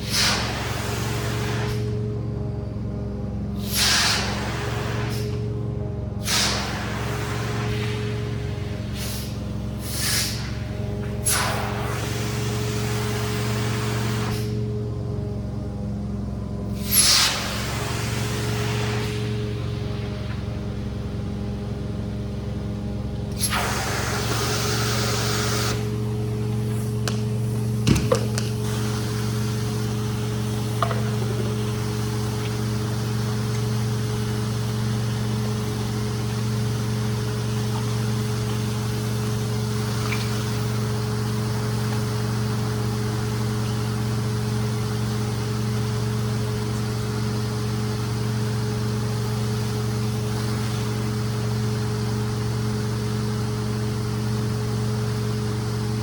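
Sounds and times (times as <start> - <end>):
machine humming with hiss: 0.0 - 56.0.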